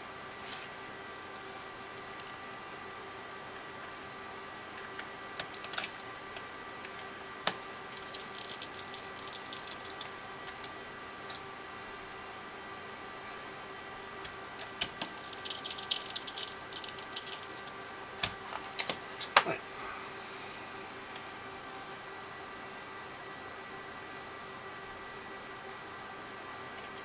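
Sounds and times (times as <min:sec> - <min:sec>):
faint electrical hum: 0:00.0 - 0:27.0.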